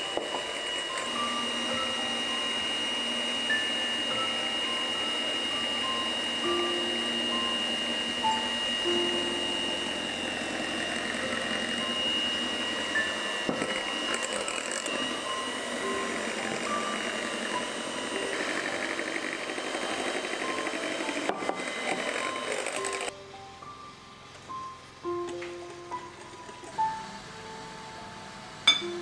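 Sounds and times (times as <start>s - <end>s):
electric hand mixer whisking batter: 0.0s - 23.2s, 26.0s - 27.4s.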